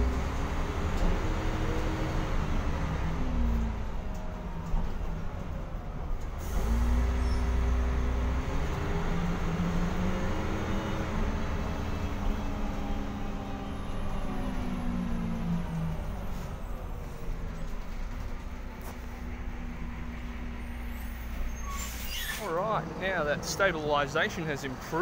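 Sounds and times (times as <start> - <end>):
bus diesel engine: 0.0 - 25.0.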